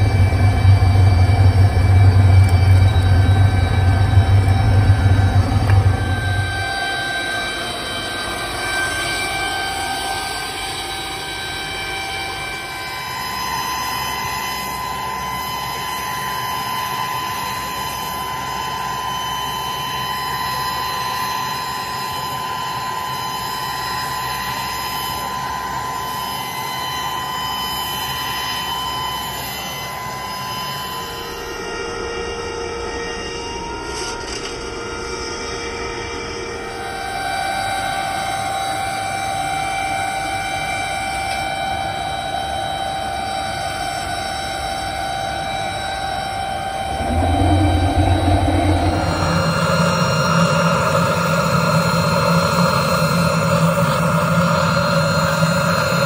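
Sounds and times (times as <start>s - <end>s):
machinery metallic whine: 0.0s - 56.0s.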